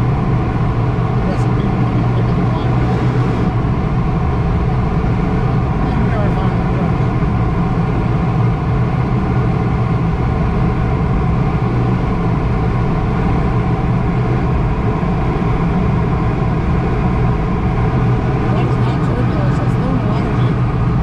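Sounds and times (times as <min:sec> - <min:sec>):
airflow rushing over canopy: 0:00.0 - 0:21.0
faint hum: 0:00.0 - 0:21.0.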